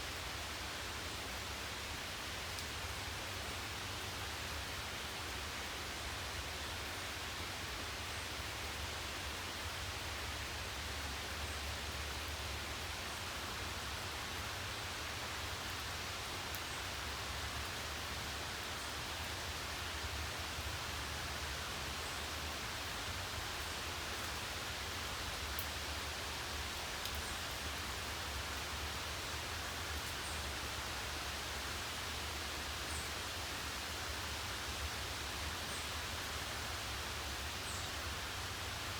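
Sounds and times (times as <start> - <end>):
steady rain hiss: 0.0 - 38.9
faint ticks of raindrops: 1.0 - 38.9.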